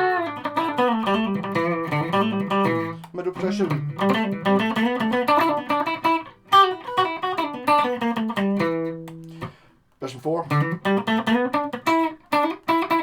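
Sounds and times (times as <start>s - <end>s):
electric guitar riff: 0.0s - 13.0s.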